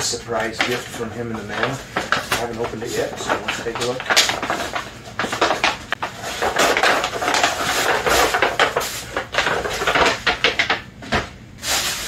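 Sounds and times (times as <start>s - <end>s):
package wrapping tearing and rustling: 0.8s - 10.7s, 11.6s - 12.0s.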